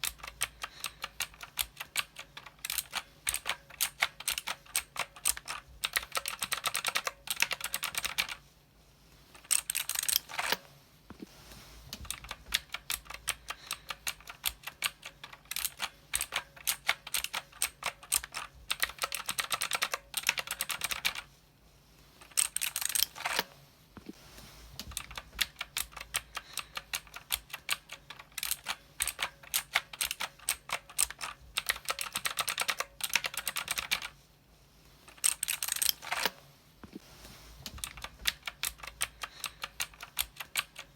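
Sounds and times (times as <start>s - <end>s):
mechanical keyboard typing: 0.0s - 8.4s, 9.4s - 10.6s, 12.0s - 21.3s, 22.2s - 23.5s, 24.8s - 34.2s, 35.1s - 36.4s, 37.7s - 40.9s.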